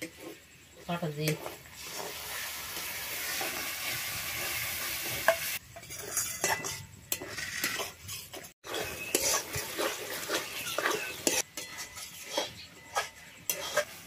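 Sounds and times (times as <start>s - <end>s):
onions sizzling in a wok: 0.0s - 14.0s
spatula scraping a wok: 0.0s - 14.0s.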